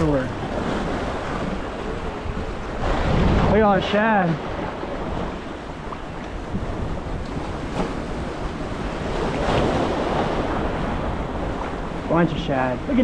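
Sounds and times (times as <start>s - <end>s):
sea waves washing against rocks: 0.0s - 13.0s
wind buffeting microphone: 0.0s - 13.0s.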